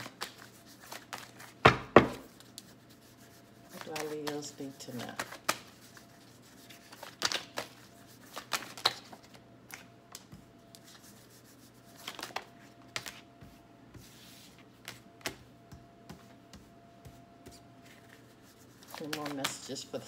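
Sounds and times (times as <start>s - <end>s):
cards shuffled and dealt: 0.0s - 11.2s, 11.8s - 15.4s, 16.1s - 20.0s.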